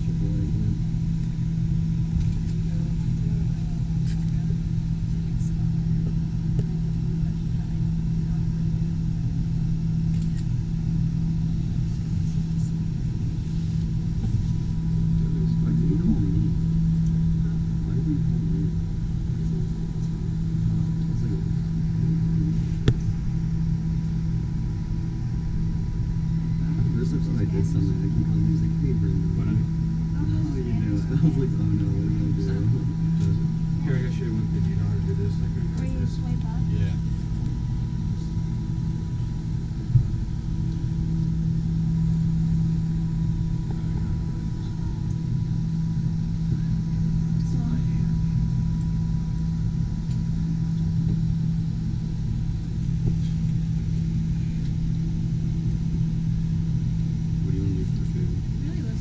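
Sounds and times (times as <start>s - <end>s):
low mechanical hum: 0.0s - 59.0s
thin high whine: 0.0s - 59.0s.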